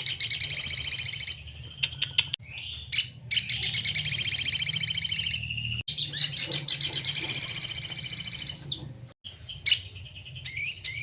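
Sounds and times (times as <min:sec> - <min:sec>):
bird singing buzzy trills: 0:00.0 - 0:11.0.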